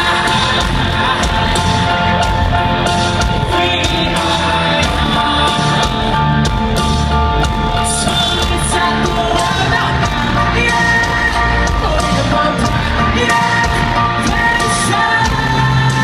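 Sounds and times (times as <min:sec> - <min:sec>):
drums: 0:00.0 - 0:16.0
live pop-rock band playing: 0:00.0 - 0:16.0
person singing: 0:00.0 - 0:16.0.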